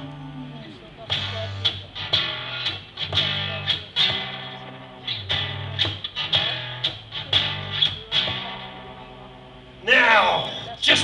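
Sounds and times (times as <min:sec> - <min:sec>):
acoustic guitar plucked notes: 0:00.0 - 0:09.6.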